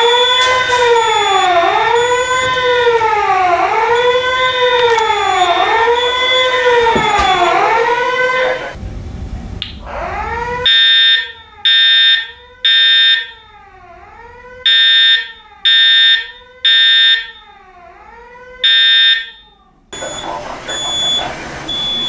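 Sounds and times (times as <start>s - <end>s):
loud alarm horn blasts: 0.0s - 8.8s, 9.7s - 22.0s
wailing alarm tone sweeping: 0.0s - 8.8s, 9.7s - 22.0s.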